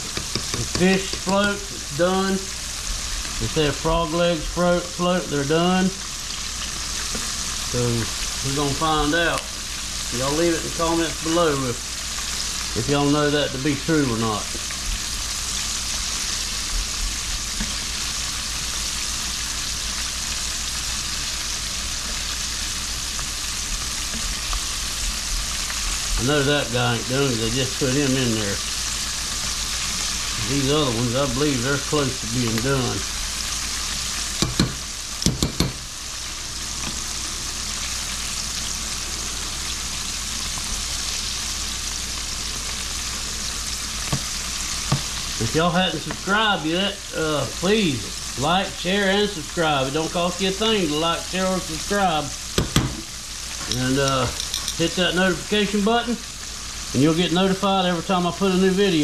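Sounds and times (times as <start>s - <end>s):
deep-frying sizzle: 0.0s - 59.0s.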